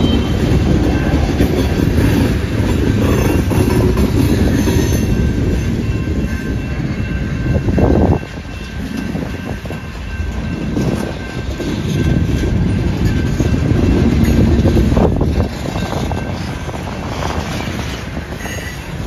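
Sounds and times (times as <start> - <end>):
freight train cars rolling past: 0.0 - 19.0.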